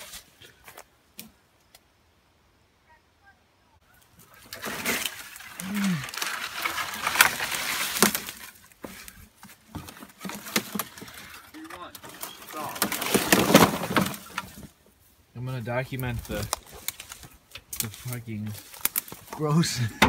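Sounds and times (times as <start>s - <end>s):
rustling and scraping of handling: 0.0s - 1.4s, 3.9s - 20.0s.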